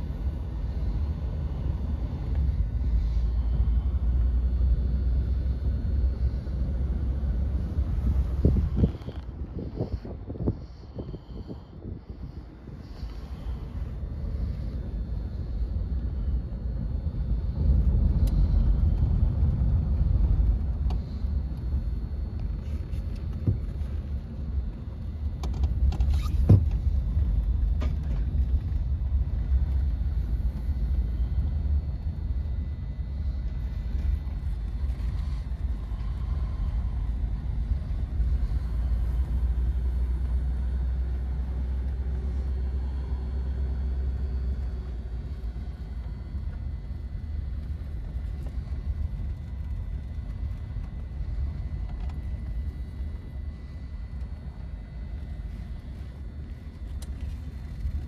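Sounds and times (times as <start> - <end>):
car engine rumble: 0.0 - 58.0
road and wind noise: 0.0 - 58.0.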